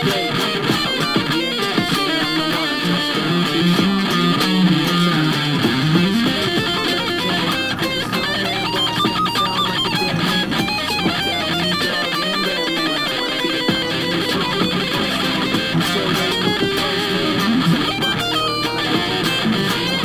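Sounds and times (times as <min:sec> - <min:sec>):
electric guitar lead solo: 0:00.0 - 0:20.0.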